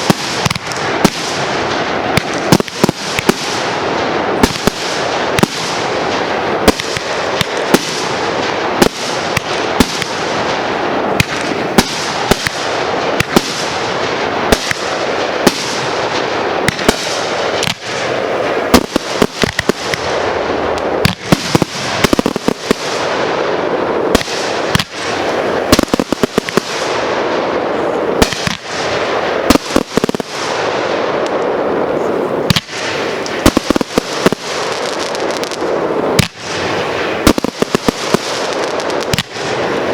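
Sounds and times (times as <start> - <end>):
fireworks bangs: 0.0 - 39.9
steady hiss: 0.0 - 39.9.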